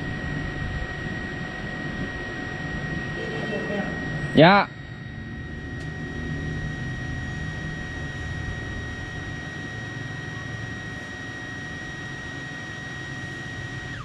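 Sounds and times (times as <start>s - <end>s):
high-pitched motor whine: 0.0s - 14.0s
water pump humming: 0.0s - 14.0s.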